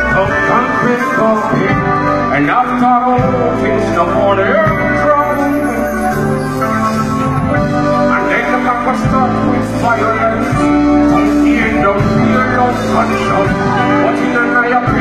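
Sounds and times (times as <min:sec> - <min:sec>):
song with singing and guitar: 0:00.0 - 0:15.0.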